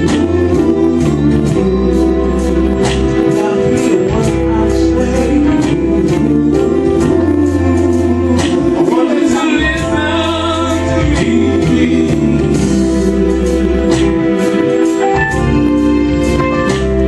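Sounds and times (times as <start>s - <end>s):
choir singing: 0.0s - 17.0s
drum kit: 0.0s - 17.0s
keyboard chords: 0.0s - 17.0s.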